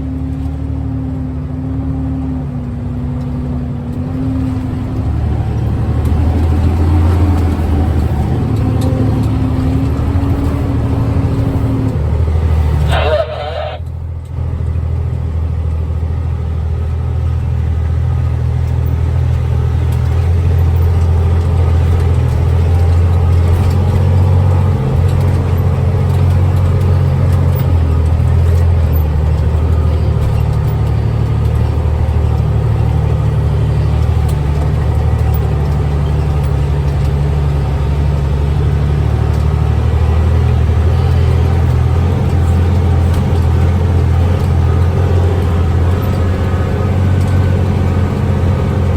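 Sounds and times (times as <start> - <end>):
road noise: 0.0 - 48.9
truck diesel engine drone: 0.0 - 48.9.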